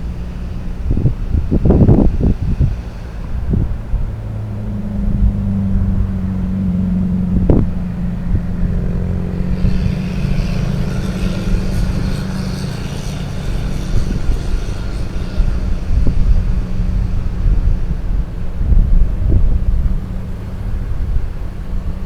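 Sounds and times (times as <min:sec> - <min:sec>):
high whine: 0:00.0 - 0:22.0
vehicle engine droning: 0:00.0 - 0:22.0.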